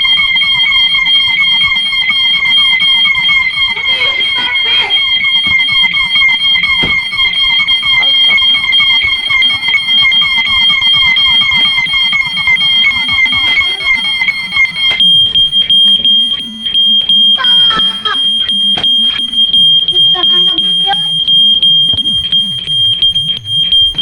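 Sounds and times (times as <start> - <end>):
fast warbling alarm tone: 0.0 - 24.0
steady high-pitched alarm tone: 0.0 - 24.0.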